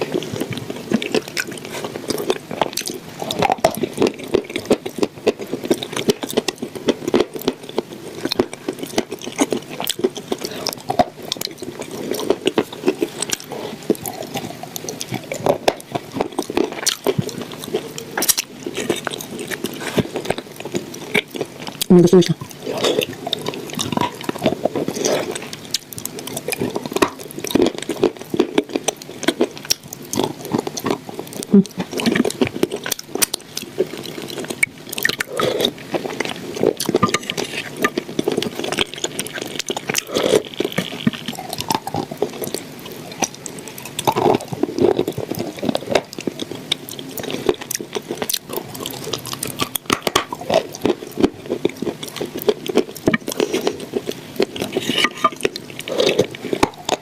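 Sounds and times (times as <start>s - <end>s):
wet chewing of food: 0.0s - 57.0s.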